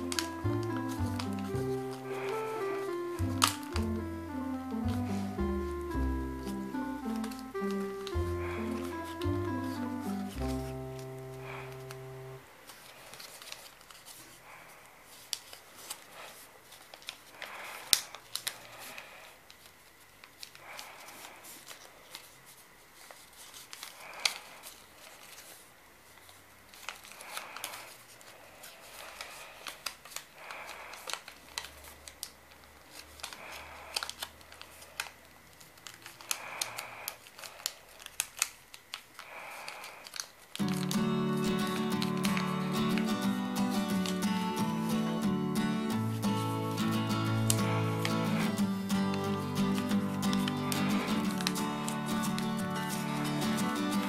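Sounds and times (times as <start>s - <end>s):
paper creases crackling and tapping: 0.0s - 54.0s
paper rustling: 0.0s - 54.0s.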